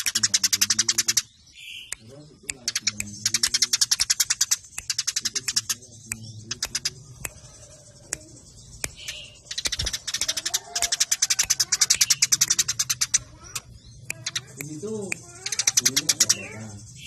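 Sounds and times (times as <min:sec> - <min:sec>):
sparrows chirping sharply: 0:00.0 - 0:17.0.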